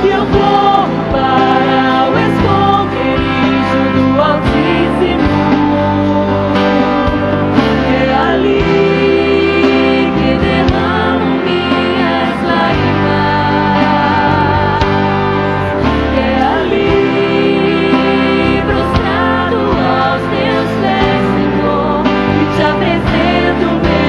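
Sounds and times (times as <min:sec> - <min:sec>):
band accompaniment: 0:00.0 - 0:24.0
people singing gospel ballad: 0:00.0 - 0:24.0.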